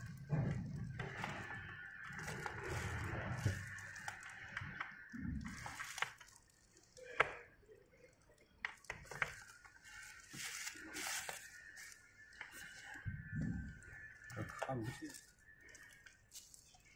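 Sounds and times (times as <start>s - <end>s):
plastic wrap crinkling: 0.0s - 16.9s.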